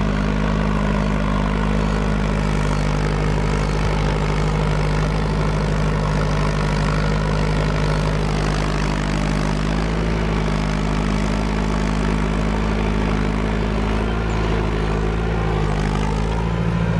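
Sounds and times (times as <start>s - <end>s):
tractor engine running under load: 0.0s - 16.9s.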